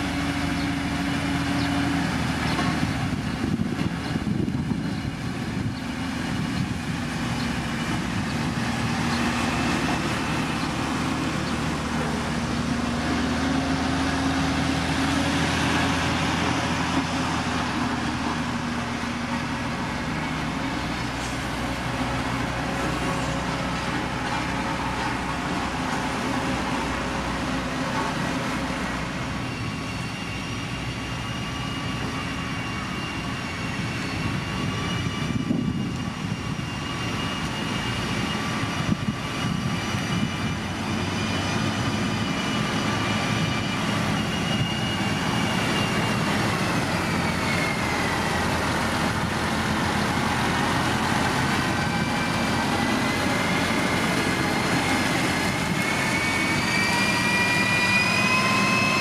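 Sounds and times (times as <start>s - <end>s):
heavy diesel engine running: 0.0s - 59.0s
high whine: 2.5s - 59.0s.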